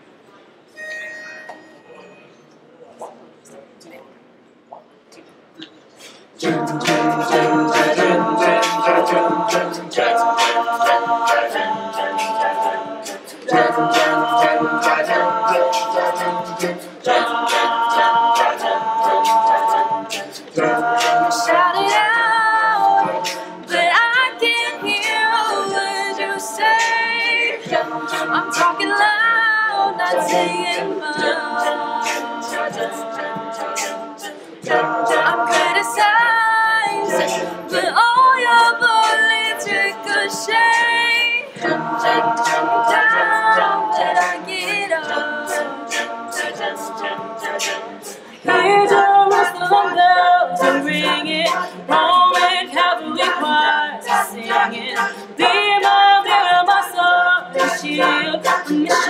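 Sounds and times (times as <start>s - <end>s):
a cappella group singing chords: 6.0s - 59.0s.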